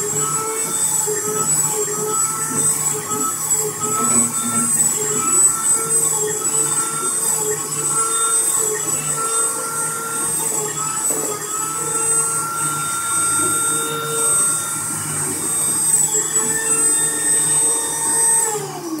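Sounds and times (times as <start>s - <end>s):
drilling spindle whining: 0.0s - 19.0s.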